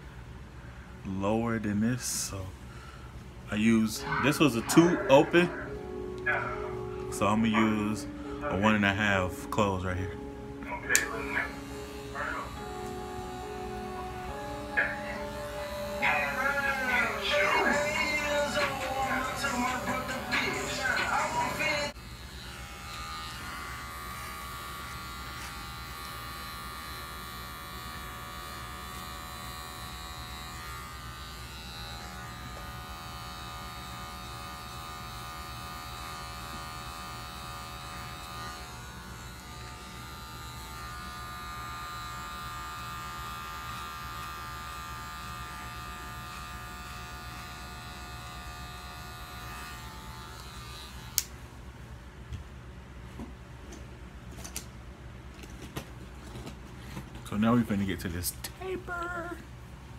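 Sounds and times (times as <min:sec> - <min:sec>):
electric hair clippers buzzing: 0:03.5 - 0:51.6.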